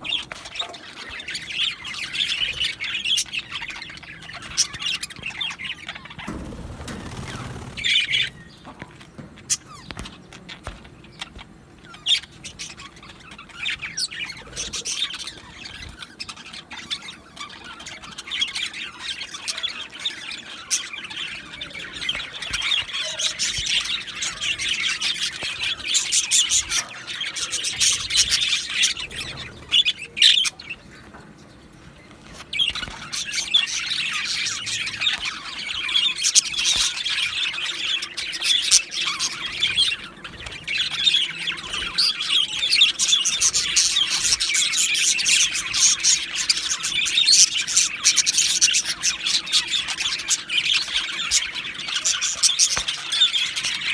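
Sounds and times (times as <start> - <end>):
budgerigars chattering: 0.0 - 30.8, 32.4 - 53.9.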